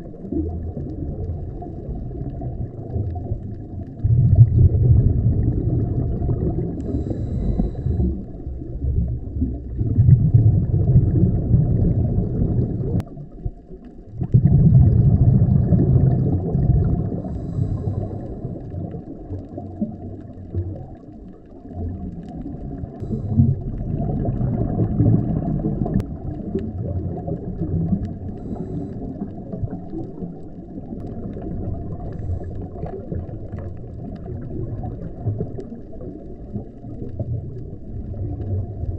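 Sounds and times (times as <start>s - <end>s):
underwater regulator bubbles gurgling: 0.0s - 38.9s.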